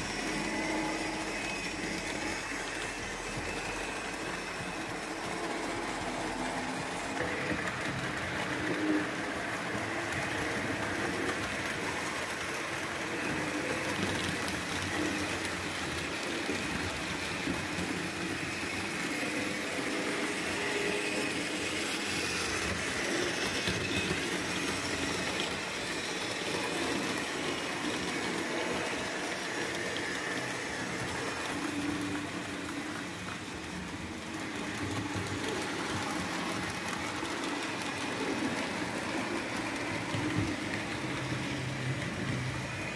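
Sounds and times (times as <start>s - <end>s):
model train motors whirring: 0.0s - 42.9s.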